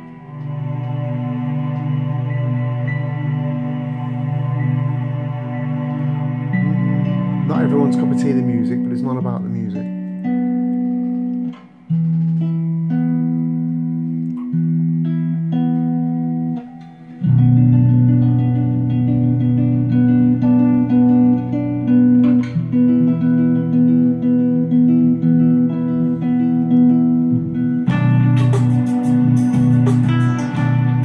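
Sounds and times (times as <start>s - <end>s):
plucked string melody with bass: 0.0s - 31.0s.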